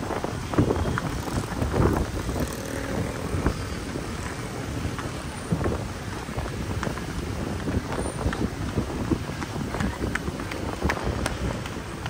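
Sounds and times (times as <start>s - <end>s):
passing traffic: 0.0s - 12.0s
wind buffeting microphone: 0.0s - 12.0s.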